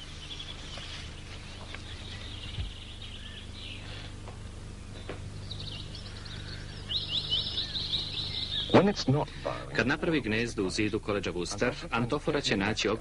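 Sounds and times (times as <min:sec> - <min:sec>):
low steady hum: 0:00.0 - 0:13.0
songbirds trilling: 0:00.0 - 0:13.0.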